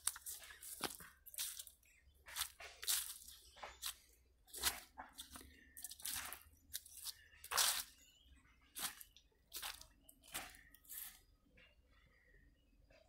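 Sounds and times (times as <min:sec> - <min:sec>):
footsteps crunching through dry leaves: 0:00.0 - 0:08.1, 0:08.7 - 0:11.2.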